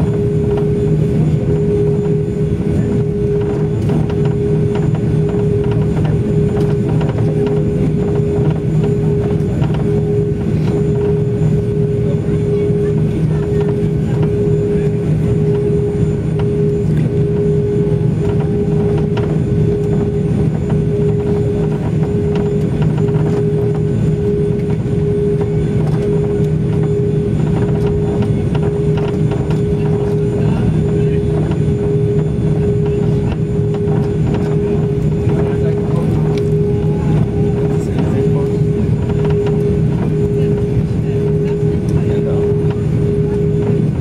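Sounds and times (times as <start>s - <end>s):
aircraft cabin engine drone: 0.0s - 44.0s.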